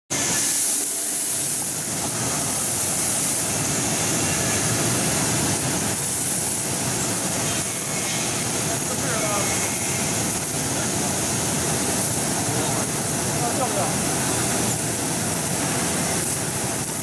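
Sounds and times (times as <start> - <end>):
washing machine churning water: 0.1 - 17.0.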